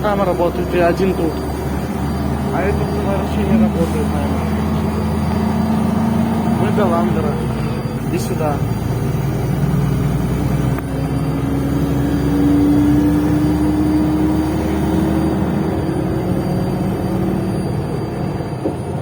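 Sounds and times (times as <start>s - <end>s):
bus engine whine pulling away: 0.0s - 19.0s.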